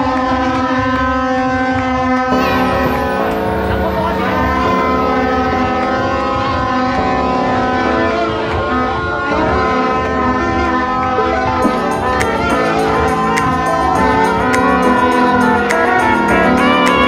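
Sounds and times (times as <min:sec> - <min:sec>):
music with long held chords: 0:00.0 - 0:17.0.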